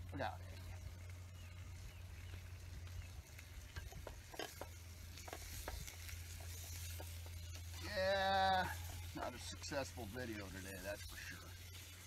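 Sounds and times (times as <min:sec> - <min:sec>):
campfire crackling: 0:00.0 - 0:12.0
stick ticking among coals: 0:00.0 - 0:12.0.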